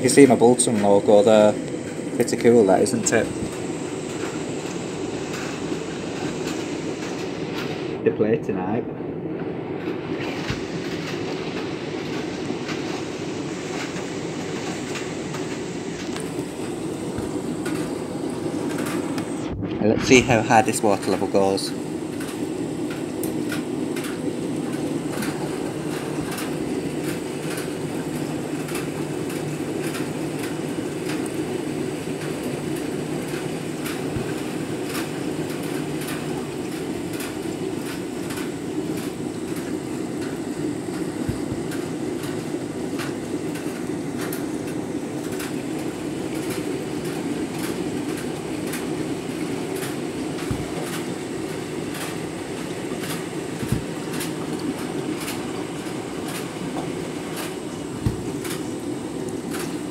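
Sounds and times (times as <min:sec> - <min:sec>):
washing machine rumbling: 0:00.0 - 0:59.9.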